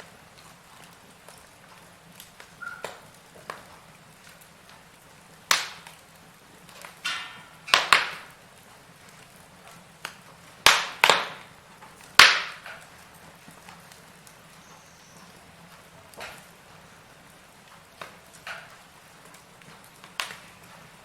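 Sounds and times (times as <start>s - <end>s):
faint fire hiss: 0.0s - 21.0s
firewood popping and cracking: 0.0s - 21.0s.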